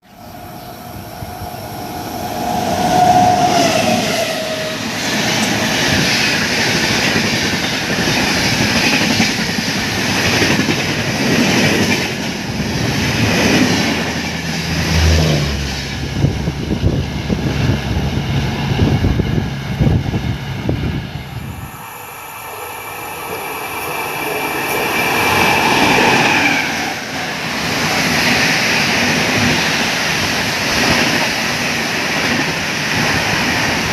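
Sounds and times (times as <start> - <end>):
high-pitched train noise: 0.0 - 33.9
train rushing past: 0.0 - 33.9.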